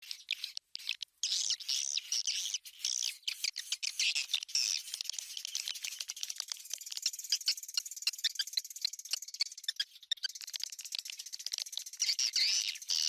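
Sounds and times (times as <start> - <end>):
high twittering bird chirps: 0.0 - 13.0.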